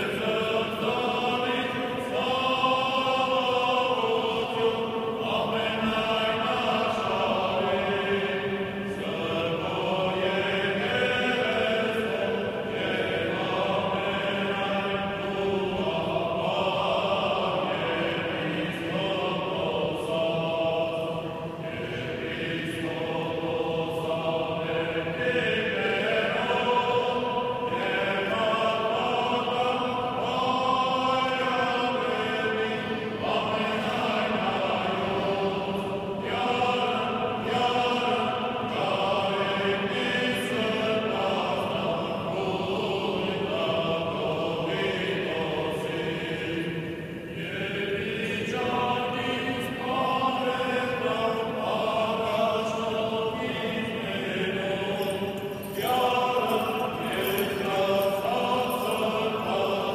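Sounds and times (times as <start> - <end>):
clergy singing chant: 0.0 - 59.9.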